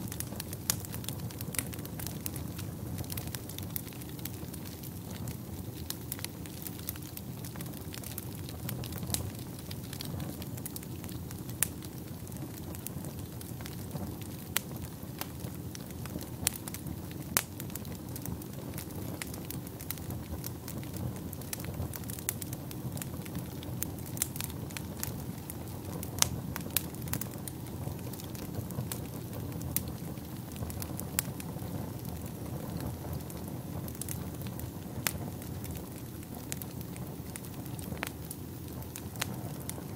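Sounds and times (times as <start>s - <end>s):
fire crackling and popping: 0.0s - 39.9s
fire flames rushing: 0.0s - 39.9s.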